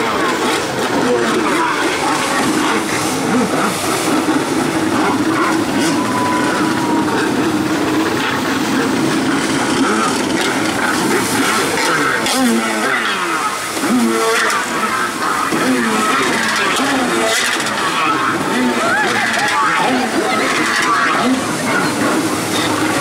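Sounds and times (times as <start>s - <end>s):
jet pump churning spray: 0.0s - 23.0s
jet ski engine running hard: 0.0s - 23.0s.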